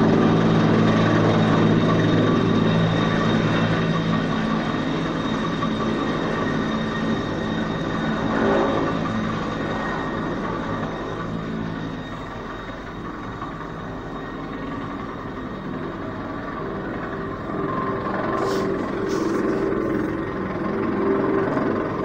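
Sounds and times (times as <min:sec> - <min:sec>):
helicopter hovering: 0:00.0 - 0:22.0.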